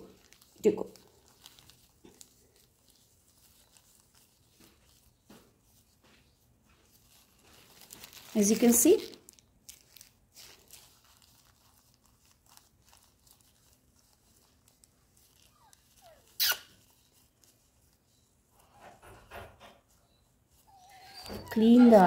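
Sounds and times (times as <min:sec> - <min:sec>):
plastic gloves and cloth rustling: 0:00.0 - 0:19.1, 0:20.1 - 0:22.0.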